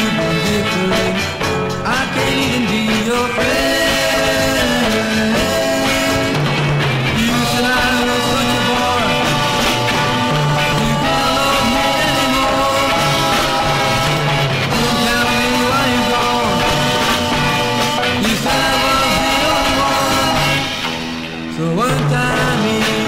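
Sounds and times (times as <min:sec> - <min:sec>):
garage rock band playing: 0:00.0 - 0:23.0
person singing: 0:00.0 - 0:23.0.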